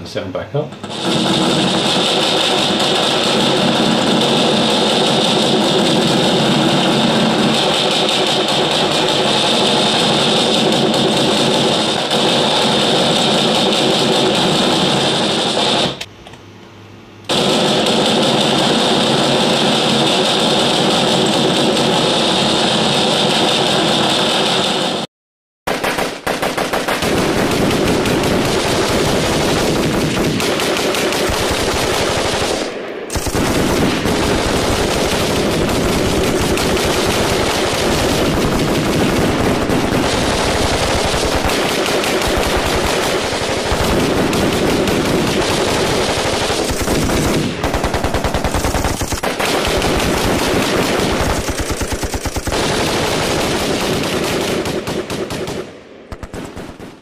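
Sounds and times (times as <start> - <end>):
machine guns firing: 0.8 - 16.1, 17.3 - 25.1, 25.7 - 57.0.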